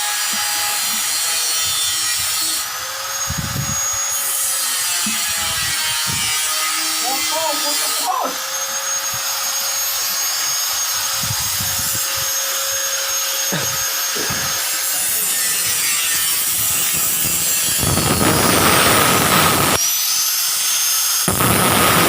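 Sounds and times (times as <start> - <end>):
power tool grinding steel: 0.0 - 22.0.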